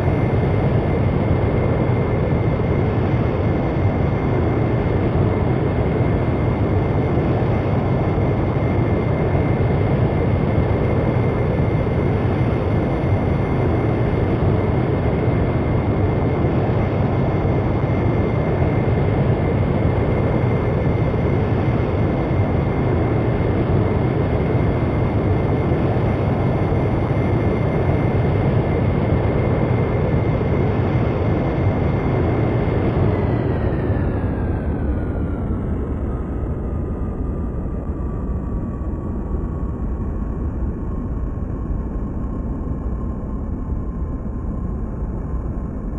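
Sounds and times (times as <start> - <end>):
jet engines whining: 0.0 - 45.9.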